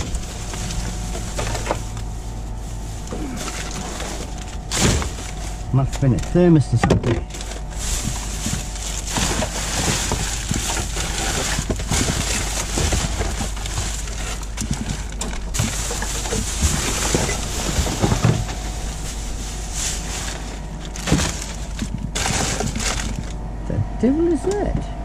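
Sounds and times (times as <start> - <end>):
clicks and knocks of packaging: 0.0 - 2.1, 3.1 - 23.4
plastic bag crinkling and rustling: 0.0 - 23.4.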